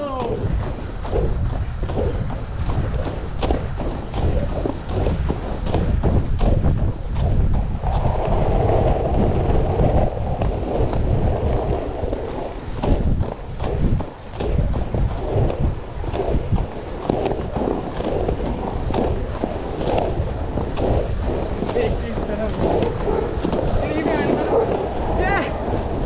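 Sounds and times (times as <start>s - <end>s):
skate wheels rolling on asphalt: 0.0s - 26.0s
wind buffeting microphone: 0.0s - 26.0s.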